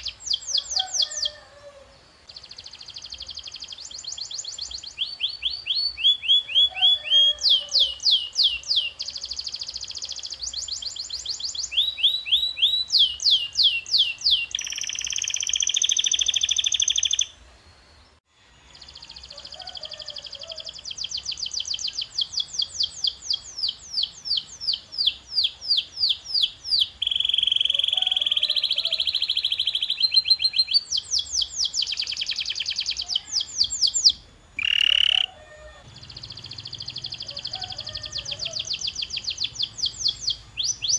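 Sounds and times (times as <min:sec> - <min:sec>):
canary singing: 0:00.0 - 0:17.4, 0:18.8 - 0:40.9.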